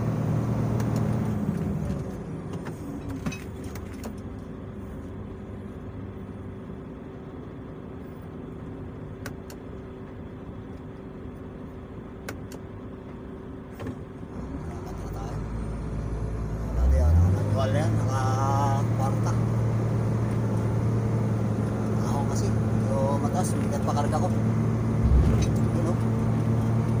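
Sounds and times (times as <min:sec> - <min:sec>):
diesel truck engine: 0:00.0 - 0:27.0.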